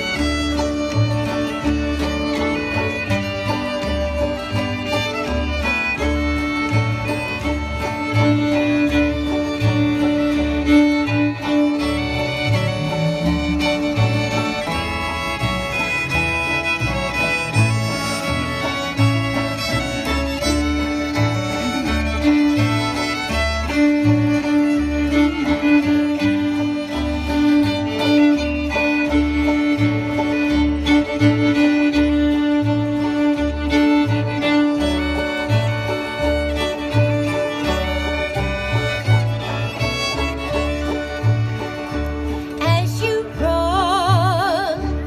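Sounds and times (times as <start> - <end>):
fiddles playing: 0.0 - 45.0
plucked upright bass: 0.0 - 45.0
strummed acoustic guitar: 0.0 - 45.0.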